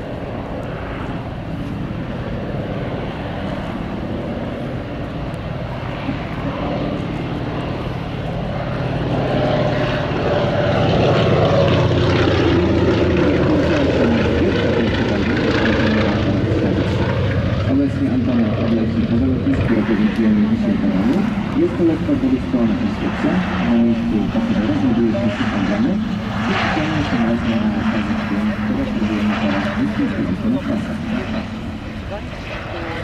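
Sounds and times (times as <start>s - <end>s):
propeller aircraft flying by: 0.0s - 33.0s.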